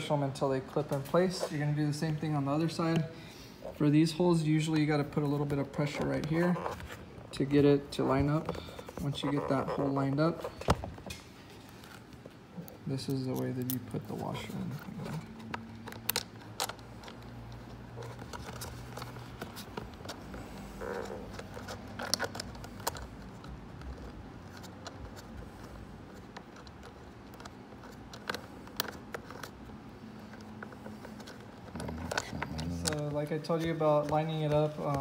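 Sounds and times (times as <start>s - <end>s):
plastic parts clicking and scraping: 0.7s - 35.0s.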